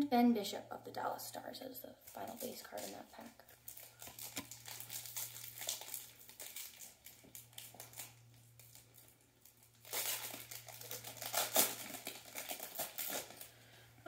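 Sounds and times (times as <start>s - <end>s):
card pack wrapper crinkling: 2.1s - 13.5s.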